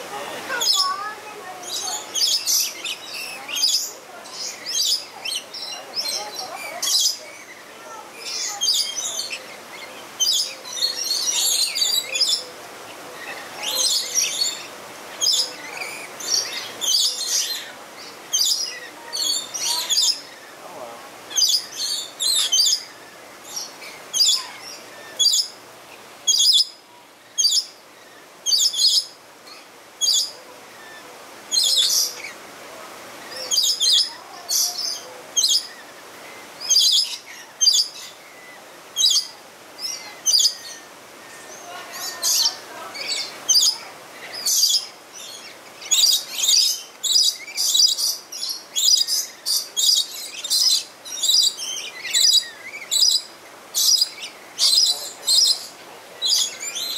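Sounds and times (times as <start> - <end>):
lorikeets screeching: 0.1 - 12.5, 13.2 - 20.6, 21.3 - 25.6, 26.3 - 32.4, 33.3 - 56.9.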